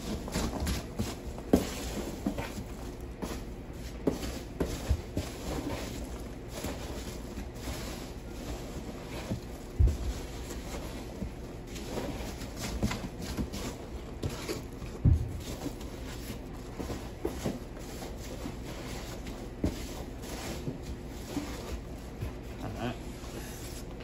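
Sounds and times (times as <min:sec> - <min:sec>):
rustling packing peanuts: 0:00.0 - 0:24.0.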